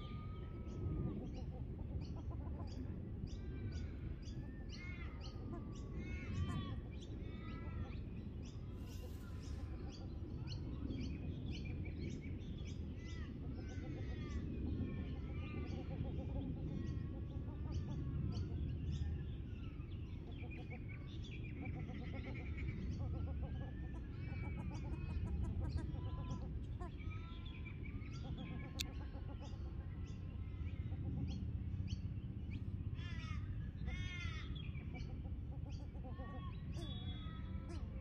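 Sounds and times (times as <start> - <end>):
birds chirping: 0.0 - 38.0
low steady rumble: 0.0 - 38.0.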